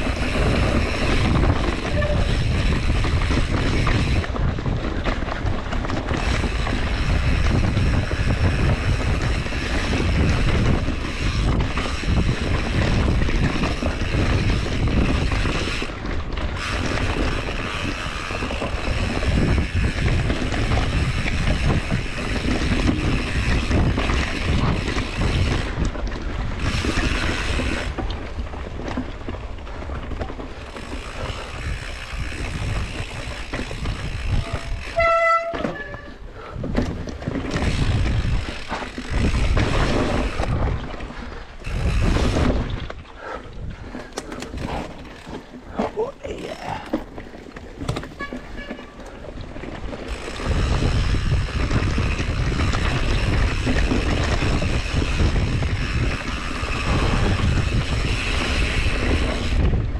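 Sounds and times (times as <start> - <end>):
bike rattling over bumps: 0.0 - 59.9
bike tyres rolling over dirt: 0.0 - 59.9
wind buffeting microphone: 0.0 - 59.9.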